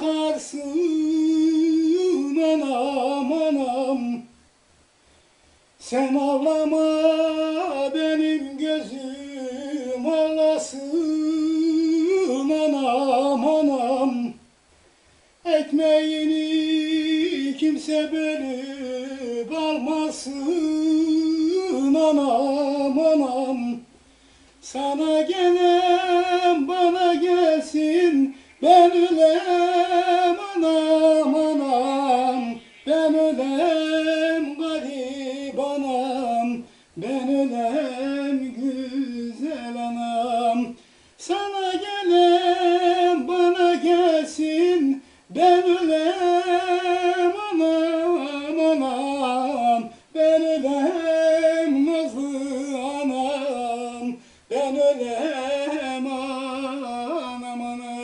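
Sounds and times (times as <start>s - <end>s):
man singing unaccompanied: 0.0s - 58.0s.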